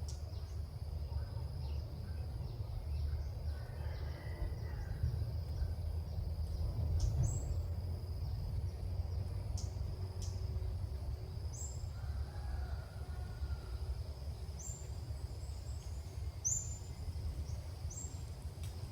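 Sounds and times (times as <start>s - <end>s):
low rumble on microphone: 0.0s - 18.9s.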